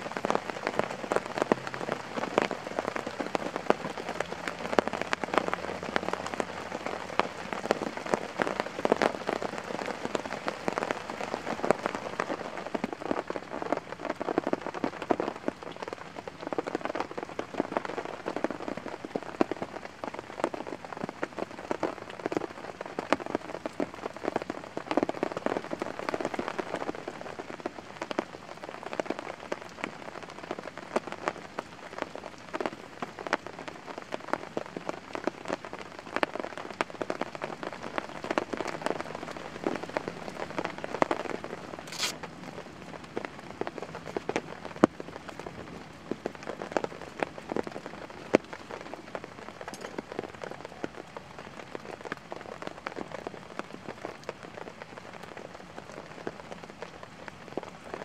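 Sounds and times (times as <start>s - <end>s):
campfire crackling: 0.0s - 58.0s
steady rain pattering: 0.0s - 58.0s.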